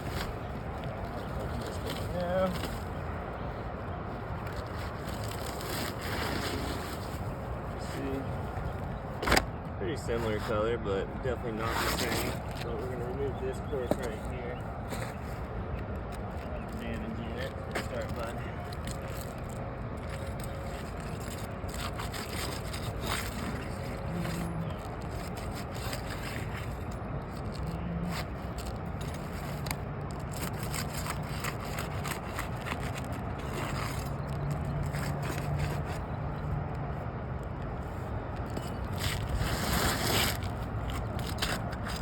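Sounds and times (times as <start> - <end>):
shingles scraping: 4.1 - 10.6, 11.3 - 15.4, 16.4 - 36.2, 37.9 - 42.0.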